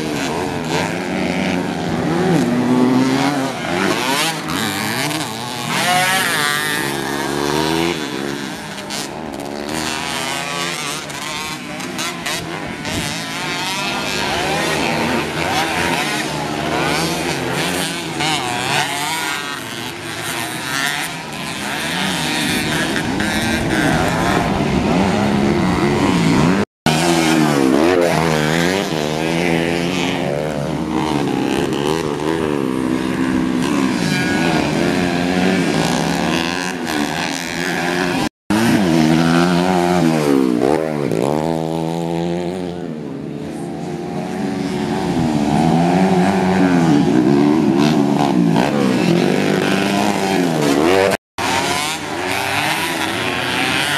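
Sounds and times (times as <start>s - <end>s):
motocross bike engines revving: 0.0s - 53.9s.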